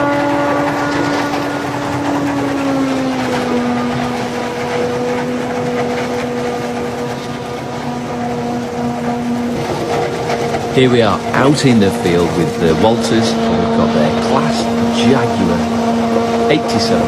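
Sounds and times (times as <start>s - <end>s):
broad rushing noise: 0.0s - 17.0s
forage harvester whine: 0.0s - 17.0s.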